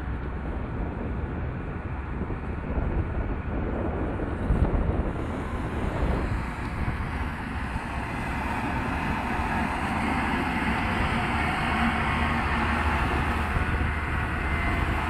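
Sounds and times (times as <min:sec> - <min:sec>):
diesel motor grader running: 0:00.0 - 0:15.0.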